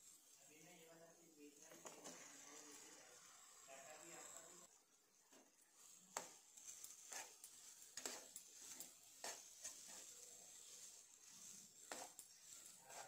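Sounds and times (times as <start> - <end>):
spatula mixing potatoes: 0.0 - 13.0.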